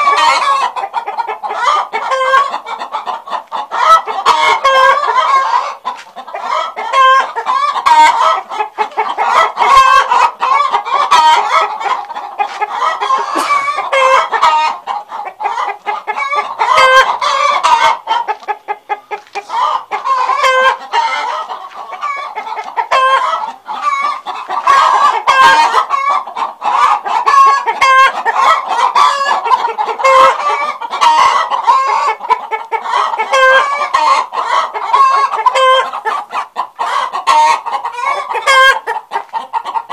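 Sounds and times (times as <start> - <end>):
chickens clucking and cackling: 0.0 - 39.9.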